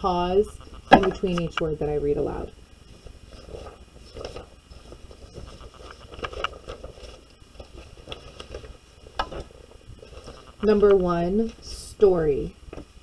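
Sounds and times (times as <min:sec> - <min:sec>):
low steady rumble: 0:00.0 - 0:13.0
small rustles: 0:00.5 - 0:13.0.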